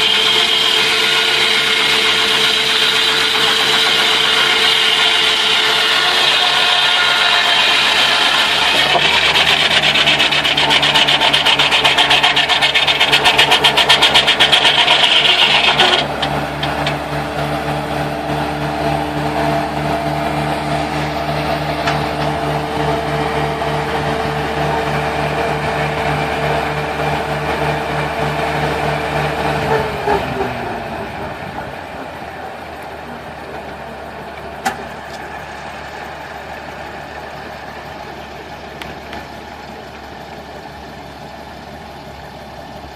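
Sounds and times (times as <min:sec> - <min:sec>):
saw cutting through wood: 0:00.0 - 0:39.4
sawmill engine running: 0:00.0 - 0:42.9.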